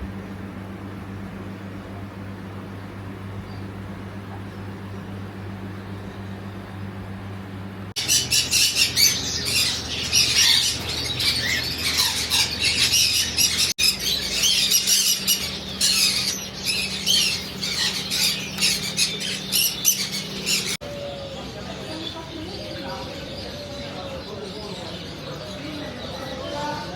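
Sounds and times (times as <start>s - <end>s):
caged birds chirping and squawking: 0.0s - 26.9s
steady low hum: 0.0s - 26.9s.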